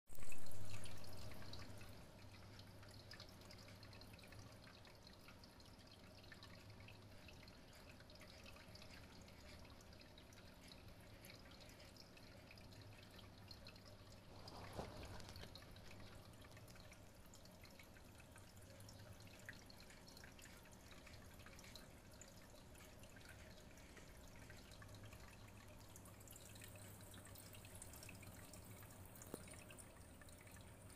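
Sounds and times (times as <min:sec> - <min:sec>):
low steady hum: 0:00.1 - 0:30.9
water dripping and trickling: 0:00.1 - 0:30.9.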